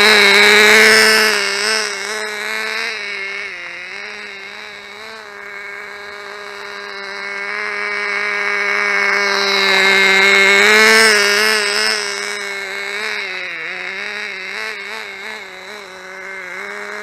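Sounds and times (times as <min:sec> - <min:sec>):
toy car engine buzzing whine: 0:00.0 - 0:17.0.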